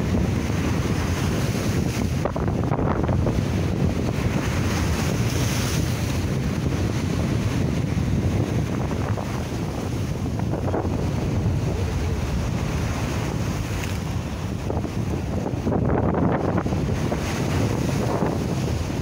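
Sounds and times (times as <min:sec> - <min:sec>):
sea waves breaking on rocks: 0:00.0 - 0:19.0
wind buffeting microphone: 0:00.0 - 0:19.0.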